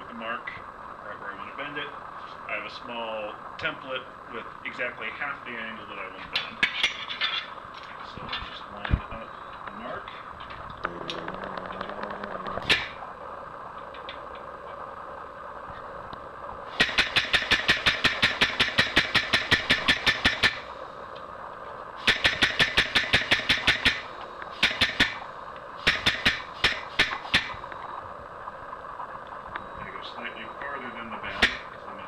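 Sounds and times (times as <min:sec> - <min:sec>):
steady low hiss: 0:00.0 - 0:32.0.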